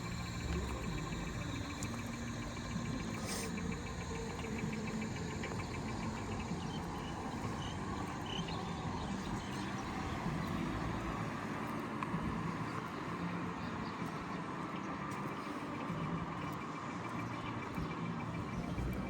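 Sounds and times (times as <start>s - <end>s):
distant traffic hum: 0.0s - 19.0s
small birds chirping: 0.0s - 19.0s.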